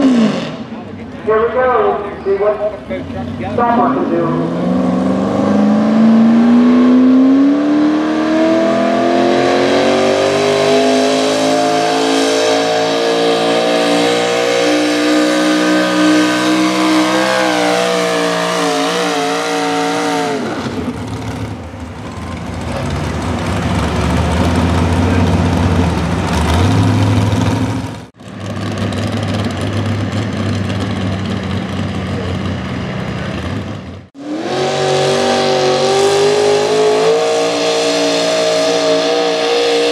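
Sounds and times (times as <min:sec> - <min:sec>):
rough engine rumble: 0:00.0 - 0:07.5, 0:09.6 - 0:34.2
truck engine at full throttle: 0:00.0 - 0:39.9.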